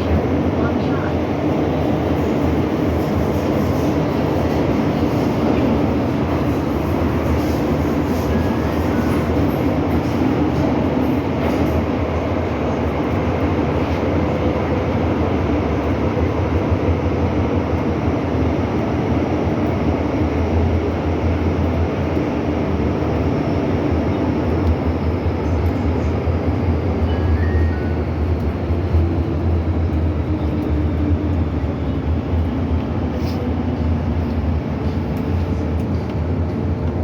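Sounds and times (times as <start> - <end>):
train rumbling through tunnel: 0.0 - 37.0.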